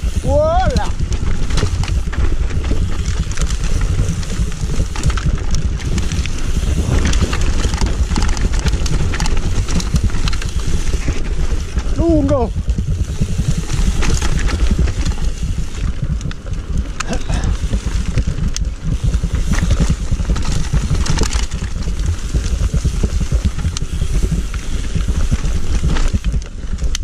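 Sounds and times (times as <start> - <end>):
wind buffeting microphone: 0.0 - 26.0
bike rattles and knocks: 0.0 - 27.0.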